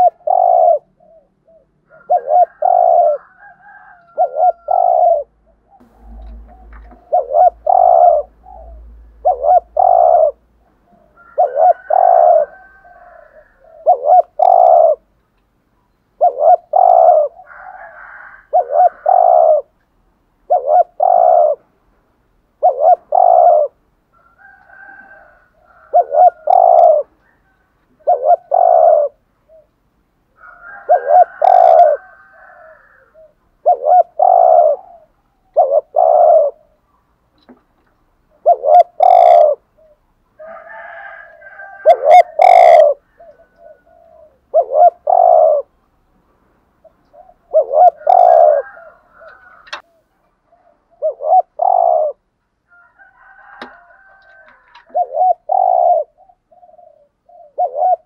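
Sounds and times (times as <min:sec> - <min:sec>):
dove cooing: 0:00.0 - 0:15.1, 0:16.1 - 0:19.8, 0:20.4 - 0:21.6, 0:22.6 - 0:36.9, 0:38.3 - 0:45.8, 0:46.8 - 0:58.0.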